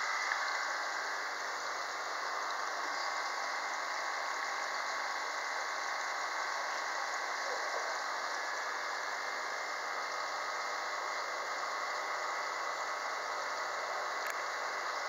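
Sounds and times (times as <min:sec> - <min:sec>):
aquarium pump hum and hiss: 0:00.0 - 0:15.0.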